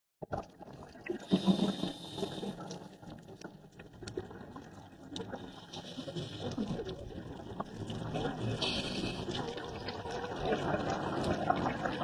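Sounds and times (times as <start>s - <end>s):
bubbles burbling: 0.2s - 12.0s.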